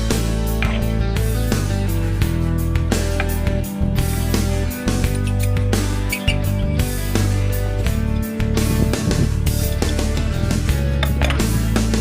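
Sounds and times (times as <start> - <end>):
bass line: 0.0 - 12.0
guitar music: 0.0 - 12.0.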